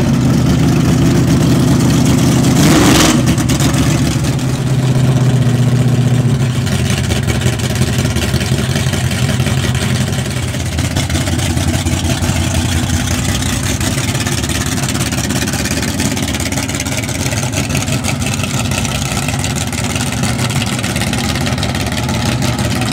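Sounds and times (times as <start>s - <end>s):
car engine idling loudly: 0.0s - 22.9s.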